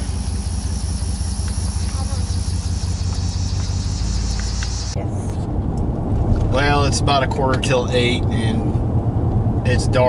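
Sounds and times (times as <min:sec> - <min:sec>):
truck engine humming: 0:00.0 - 0:10.0.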